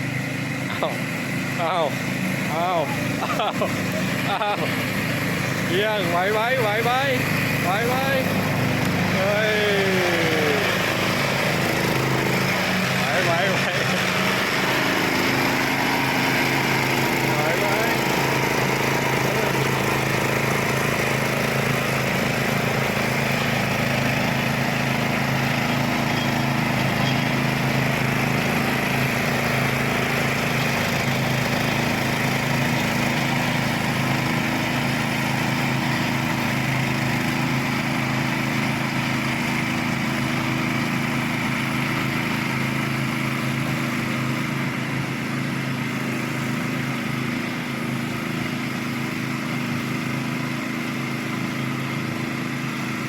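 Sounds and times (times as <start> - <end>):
ride-on lawn mower engine running: 0.0 - 53.0.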